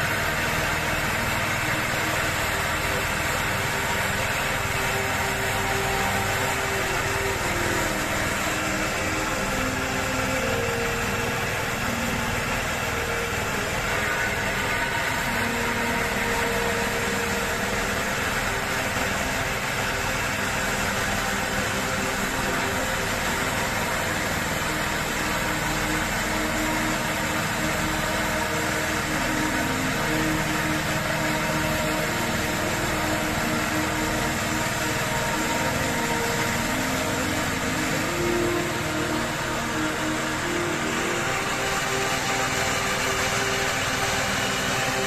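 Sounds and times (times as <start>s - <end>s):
engine-driven machinery running: 0.0s - 45.0s.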